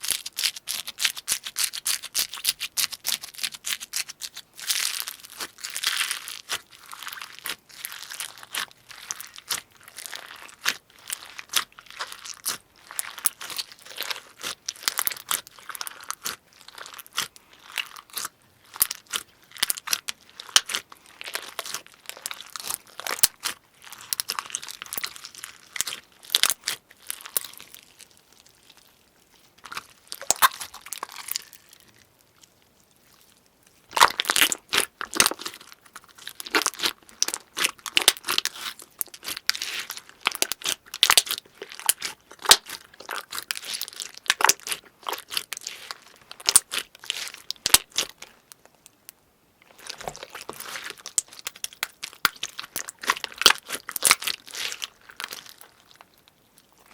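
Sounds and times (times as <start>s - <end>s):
crunchy slime squeezed by hand: 0.0s - 29.0s, 29.6s - 32.0s, 33.9s - 48.4s, 49.7s - 56.0s.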